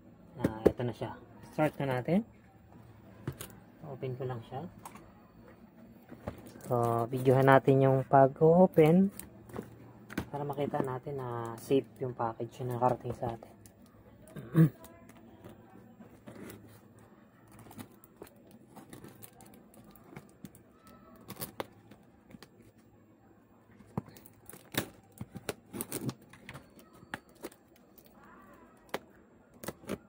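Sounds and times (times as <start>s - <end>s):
cardboard and plastic rustling: 2.7s - 3.6s, 4.8s - 23.0s, 23.7s - 30.0s.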